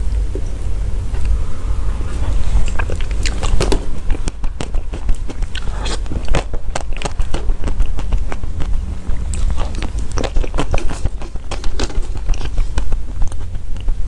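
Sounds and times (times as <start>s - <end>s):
steady low hum: 0.0s - 14.0s
wet mouth chewing sounds: 2.0s - 14.0s.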